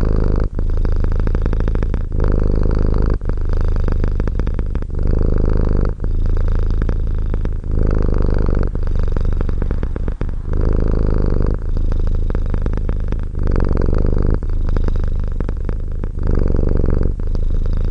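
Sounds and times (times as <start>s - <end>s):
cat purring: 0.0s - 17.9s.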